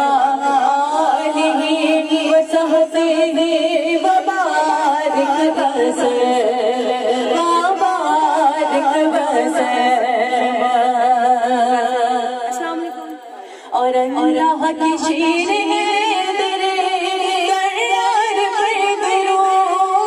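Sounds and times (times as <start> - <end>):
women singing devotional recitation: 0.0 - 20.0.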